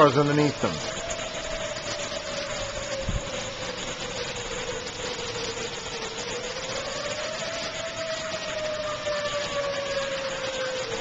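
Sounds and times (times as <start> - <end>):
heavy rain pouring: 0.0 - 11.0
warning siren steady tone: 0.0 - 11.0.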